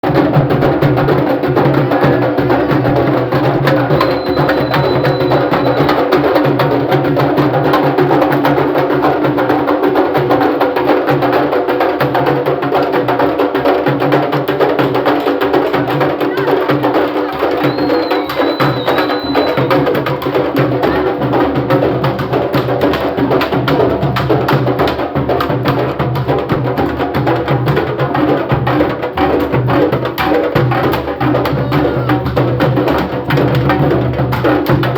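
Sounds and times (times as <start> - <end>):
drum ensemble playing: 0.0 - 34.9.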